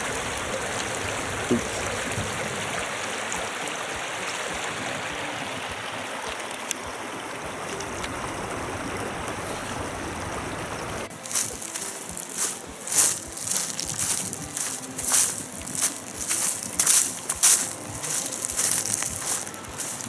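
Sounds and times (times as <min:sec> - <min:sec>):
shallow river water flowing: 0:00.0 - 0:20.0.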